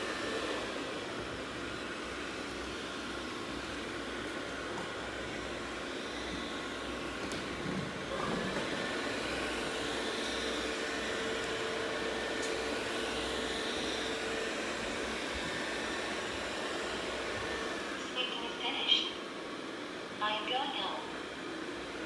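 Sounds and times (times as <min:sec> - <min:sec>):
robot vacuum whirring hum: 0:00.0 - 0:22.0.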